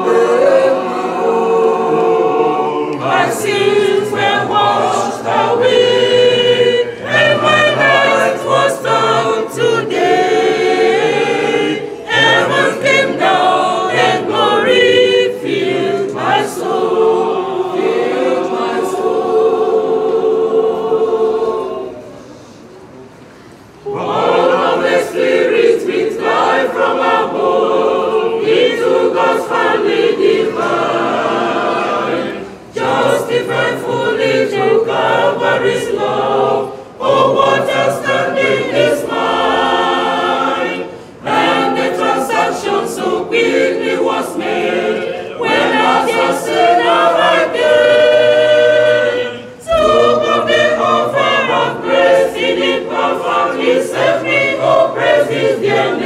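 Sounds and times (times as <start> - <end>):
church choir singing a hymn: 0.0 - 22.7, 23.7 - 56.0.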